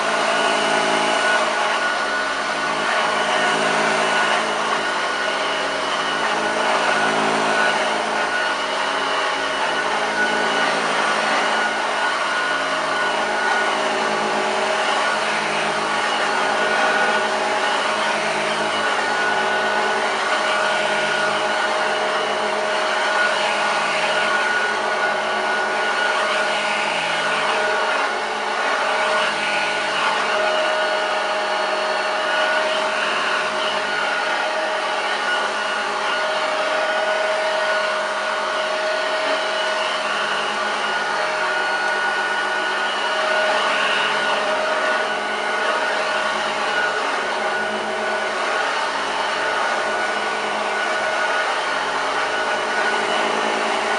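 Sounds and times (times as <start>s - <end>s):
vacuum cleaner running on carpet: 0.0s - 53.9s.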